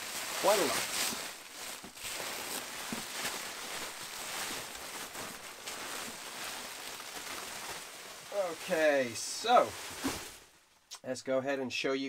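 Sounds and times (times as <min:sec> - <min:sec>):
plastic bags and bubble wrap crinkling: 0:00.0 - 0:10.9.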